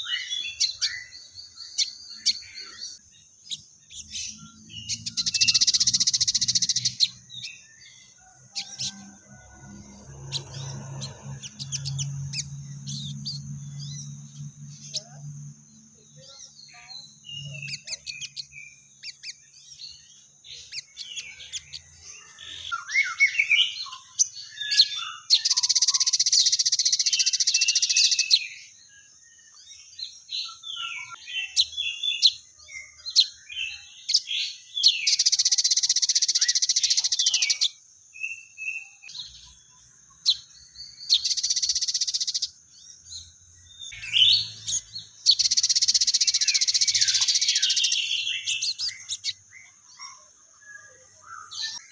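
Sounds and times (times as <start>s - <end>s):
sparrow-like chatter: 0.0s - 19.4s, 20.5s - 28.6s, 30.5s - 37.8s, 43.8s - 51.9s
bird singing high chirps: 0.0s - 51.9s.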